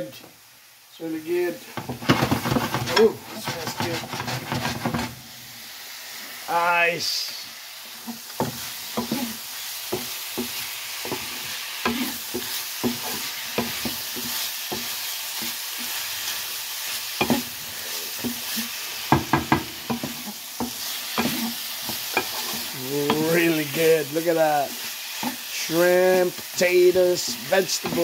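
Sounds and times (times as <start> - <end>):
food sizzling in a frying pan: 0.0 - 28.0
wooden spatula scraping a pan: 1.6 - 5.3, 8.0 - 28.0.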